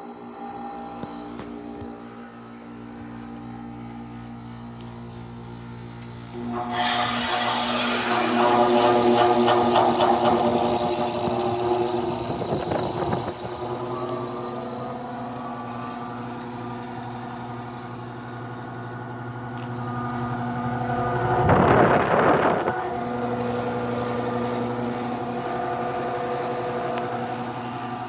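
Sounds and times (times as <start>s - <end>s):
heat pump compressor humming: 0.0s - 28.0s.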